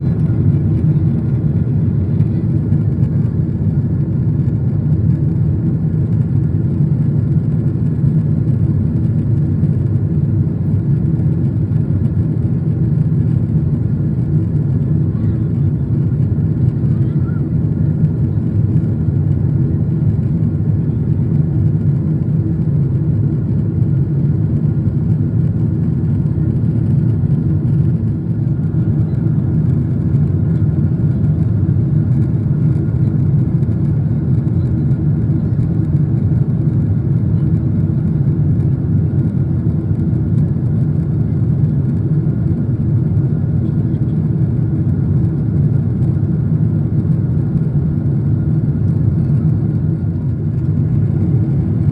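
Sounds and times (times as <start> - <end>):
airplane cabin engine drone: 0.0 - 51.9.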